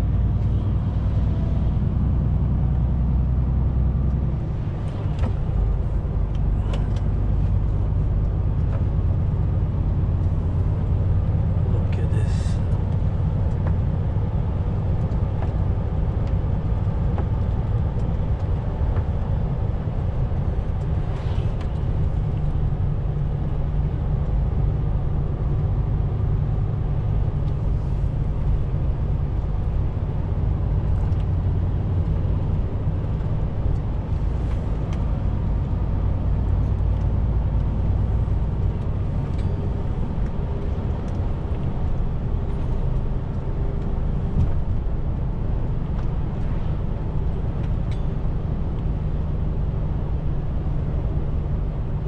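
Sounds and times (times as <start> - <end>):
road noise: 0.0 - 52.0
truck diesel engine cruising: 0.0 - 52.0.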